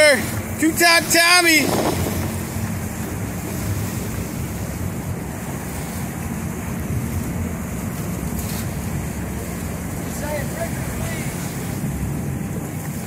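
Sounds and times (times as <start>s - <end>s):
boat wake water churning: 0.0s - 13.0s
steady low rumble: 0.0s - 13.0s
wind buffeting microphone: 0.0s - 13.0s.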